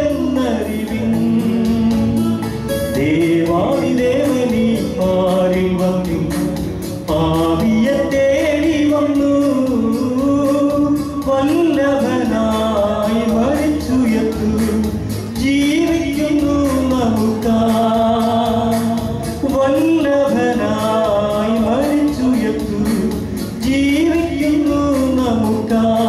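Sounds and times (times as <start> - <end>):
man singing a hymn through loudspeaker: 0.0 - 2.3, 2.9 - 26.0
steady beat: 0.0 - 26.0.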